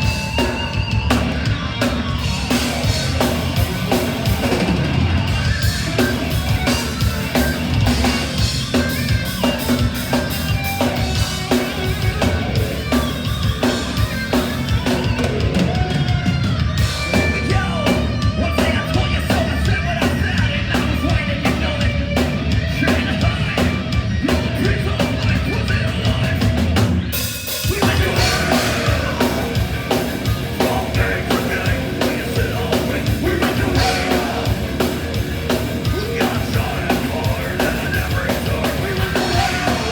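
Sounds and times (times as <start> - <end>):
live metal band playing: 0.0 - 39.9
pounding drums: 0.0 - 39.9.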